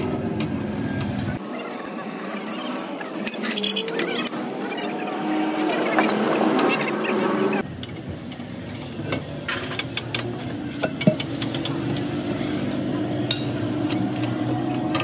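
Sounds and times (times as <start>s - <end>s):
engine hum: 2.1s - 15.0s.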